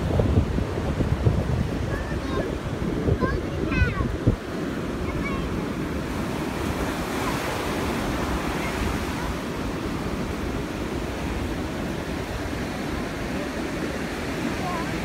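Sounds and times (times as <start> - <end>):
ocean waves on beach: 0.0 - 15.0
wind buffeting microphone: 0.0 - 15.0.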